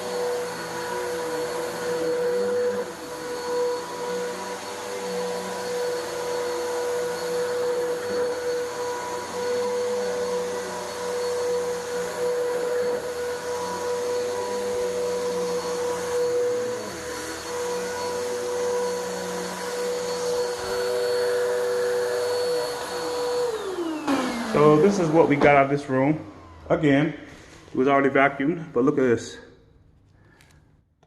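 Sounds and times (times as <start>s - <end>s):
vacuum cleaner on carpet: 0.0s - 28.6s.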